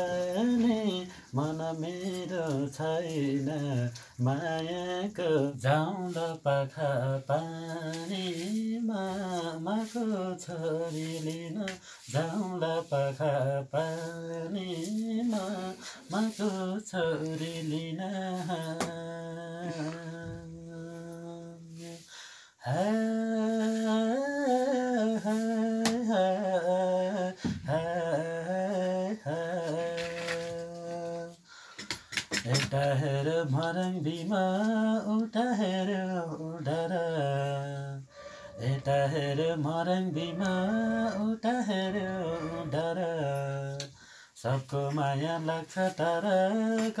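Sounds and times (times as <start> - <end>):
man singing unaccompanied: 0.0 - 31.5, 32.3 - 47.0.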